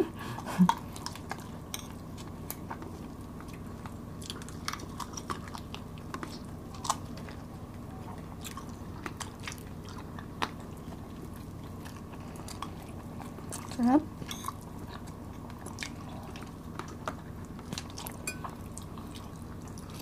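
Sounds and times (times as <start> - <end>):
low steady hum: 0.0 - 20.0
people chewing food: 0.0 - 20.0.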